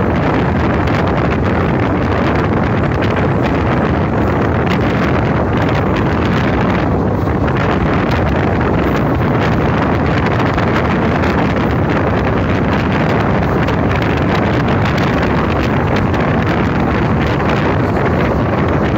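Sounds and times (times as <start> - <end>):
train running noise: 0.0 - 18.9
wind buffeting microphone: 0.0 - 18.9.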